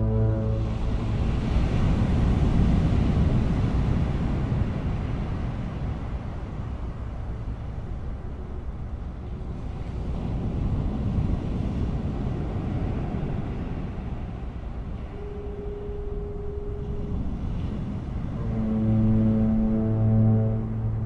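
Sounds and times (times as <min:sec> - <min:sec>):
wind buffeting microphone: 0:00.5 - 0:21.0.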